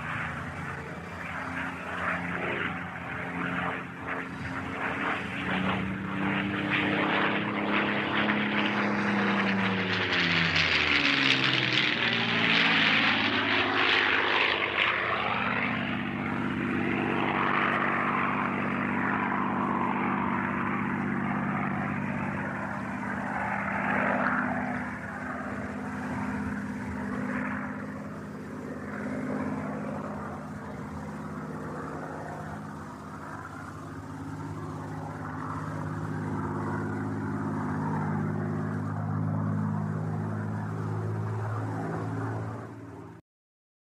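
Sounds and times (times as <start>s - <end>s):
propeller plane flying past: 0.0s - 43.2s.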